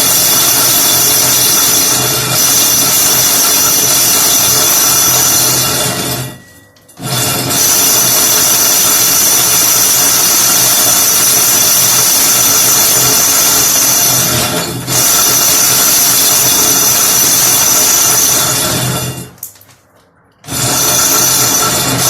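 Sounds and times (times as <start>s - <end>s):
electric drill boring into wall: 0.0s - 6.4s, 7.0s - 19.4s, 20.5s - 22.0s.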